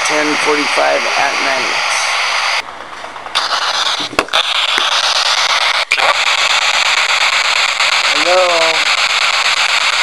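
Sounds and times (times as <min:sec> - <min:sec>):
radio static hiss: 0:00.0 - 0:02.7, 0:03.3 - 0:10.0.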